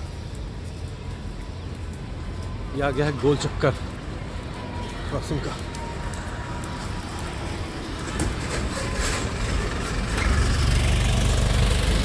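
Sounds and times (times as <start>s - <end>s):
bus engine rumble: 0.0s - 12.0s
road traffic: 0.0s - 12.0s.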